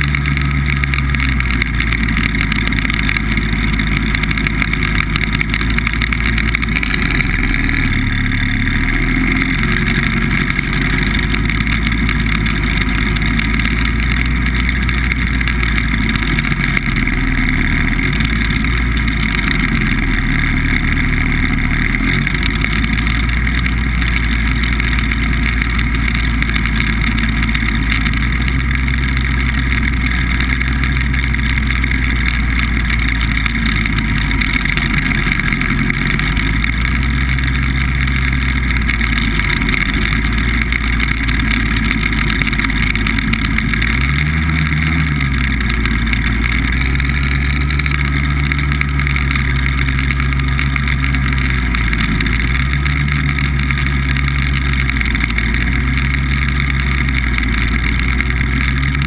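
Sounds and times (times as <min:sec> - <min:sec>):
hovercraft engine and fan running: 0:00.0 - 0:59.0.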